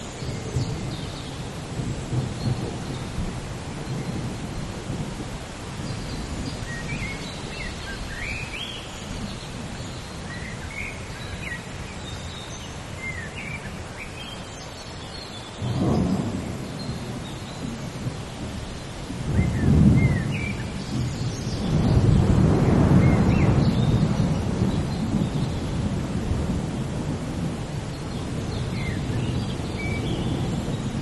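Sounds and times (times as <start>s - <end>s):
low rumble of thunder: 0.0s - 11.5s, 15.6s - 31.0s
steady rain hiss: 0.0s - 31.0s.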